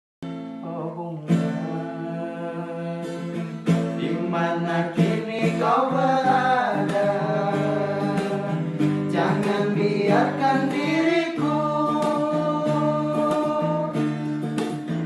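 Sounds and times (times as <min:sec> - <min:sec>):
acoustic guitar strumming chords: 0:00.2 - 0:15.0.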